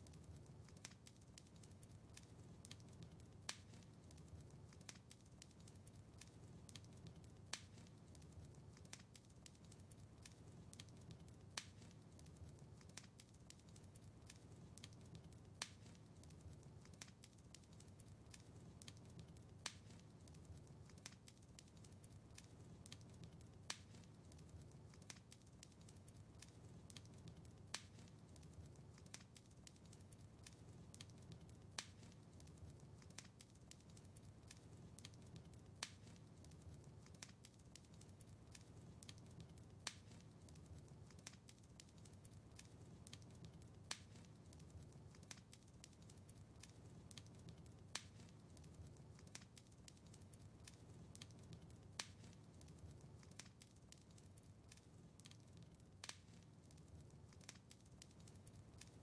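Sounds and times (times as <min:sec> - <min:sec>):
fire popping: 0:00.0 - 0:59.0
low rumble of flames: 0:00.0 - 0:59.0
wood fire crackling: 0:00.0 - 0:59.0.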